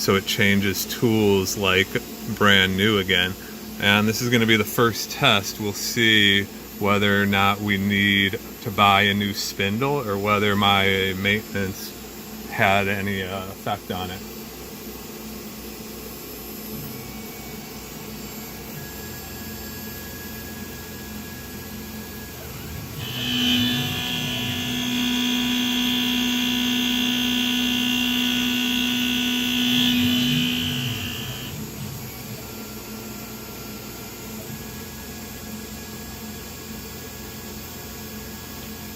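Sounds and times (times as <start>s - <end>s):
machine background hum: 0.0s - 38.9s
milling machine cutting whine: 0.0s - 38.9s.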